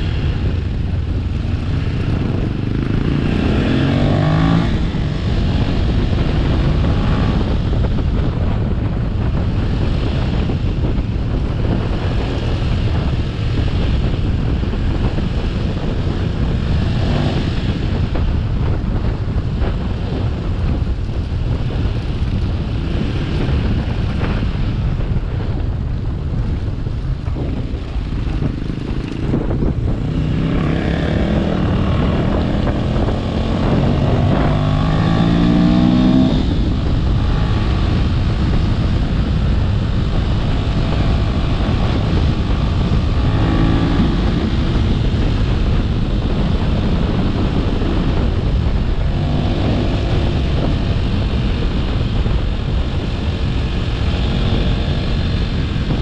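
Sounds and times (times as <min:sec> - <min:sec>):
vehicle engine rumbling: 0:00.0 - 0:56.0
wind noise: 0:00.0 - 0:56.0.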